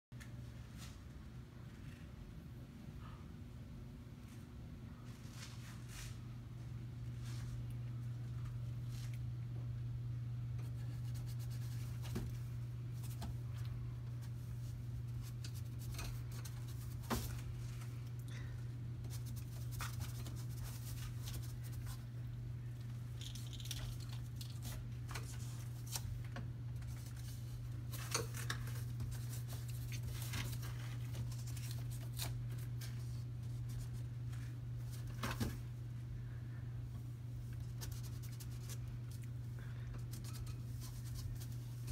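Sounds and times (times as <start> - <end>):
steady low hum: 0.2 - 41.9.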